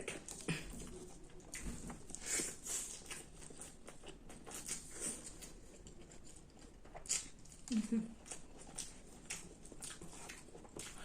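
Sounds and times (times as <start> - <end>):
chewing crunchy salad: 0.0 - 11.0.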